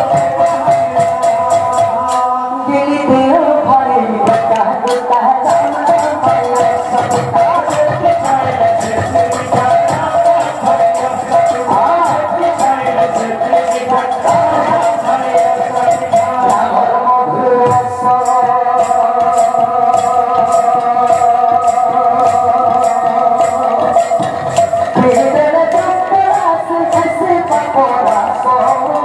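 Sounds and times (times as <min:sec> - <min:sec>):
person singing: 0:00.0 - 0:29.0.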